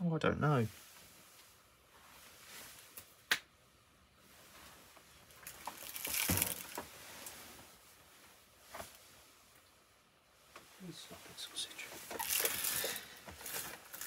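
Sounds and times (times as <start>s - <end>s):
rustling and scraping: 0.6s - 3.3s, 4.2s - 14.0s.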